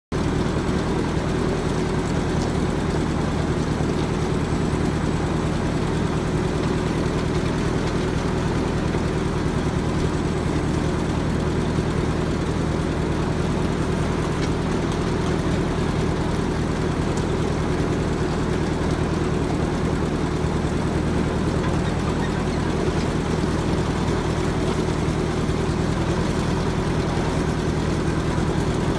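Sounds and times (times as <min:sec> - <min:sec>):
tractor engine running: 0:00.1 - 0:28.9.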